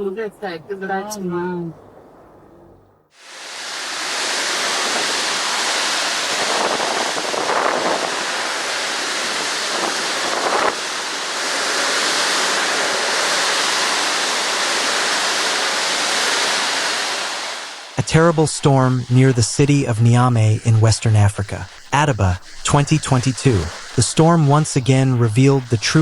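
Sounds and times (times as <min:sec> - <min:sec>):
violent storm rushing: 0:03.2 - 0:26.0.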